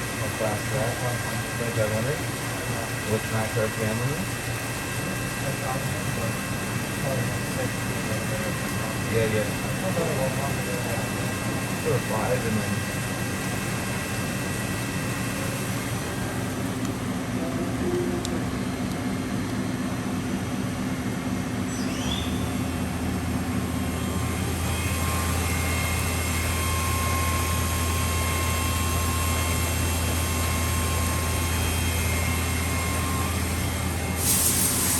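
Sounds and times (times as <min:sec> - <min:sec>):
deeper machine hum: 0:00.0 - 0:34.9
machine hum: 0:04.2 - 0:34.9.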